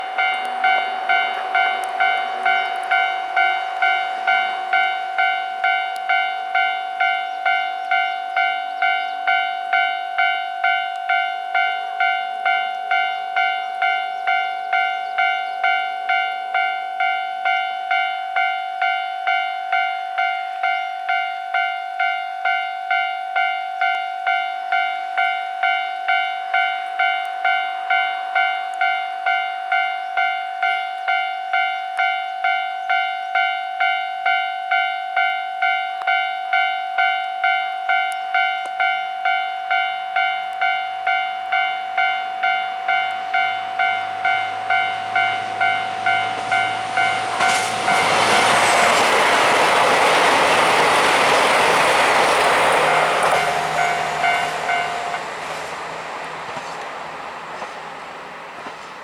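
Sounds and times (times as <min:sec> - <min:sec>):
level crossing warning bell: 0:00.0 - 0:59.0.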